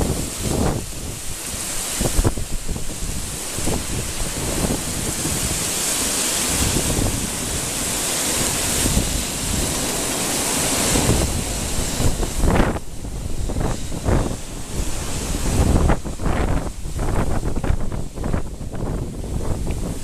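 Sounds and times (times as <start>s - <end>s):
river water rushing: 0.0s - 20.0s
wind buffeting microphone: 0.0s - 20.0s.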